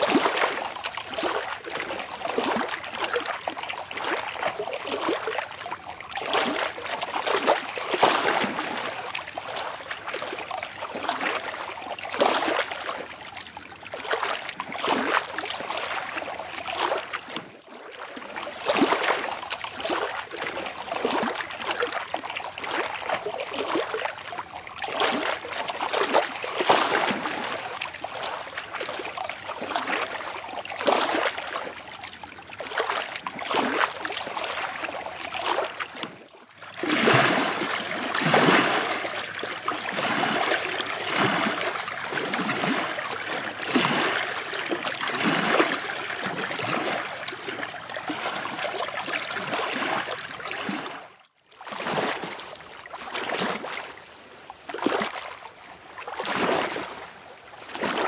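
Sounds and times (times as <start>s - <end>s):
lake water lapping and splashing: 0.0s - 58.0s.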